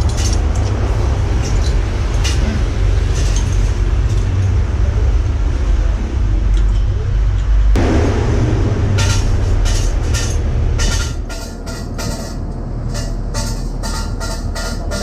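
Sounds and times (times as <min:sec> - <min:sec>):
heavy vehicle engine drone: 0:00.0 - 0:15.0
highway traffic: 0:00.0 - 0:15.0.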